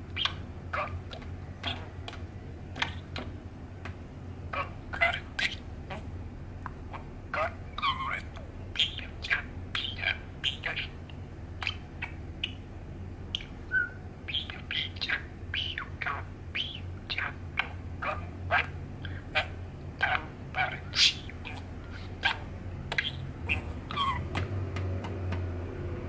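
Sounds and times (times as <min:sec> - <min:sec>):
steady low hum: 0:00.0 - 0:26.0
budgerigar chattering: 0:00.1 - 0:03.4, 0:04.4 - 0:12.6, 0:13.3 - 0:24.5.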